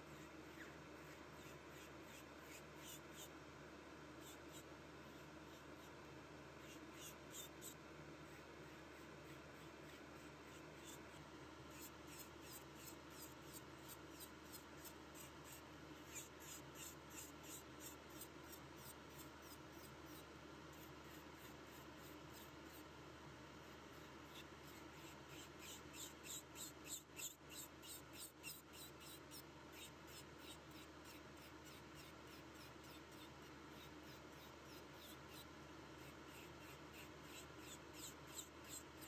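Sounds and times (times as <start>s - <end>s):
nail drill low hum: 0.0s - 3.4s, 4.0s - 22.9s, 23.6s - 39.0s
nail drill scraping strokes: 0.1s - 3.3s, 6.6s - 22.8s, 23.7s - 39.0s.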